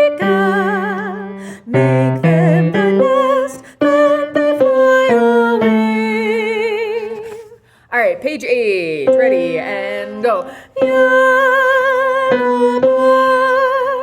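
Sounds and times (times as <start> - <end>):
woman singing with vibrato: 0.0 - 7.6, 8.7 - 14.0.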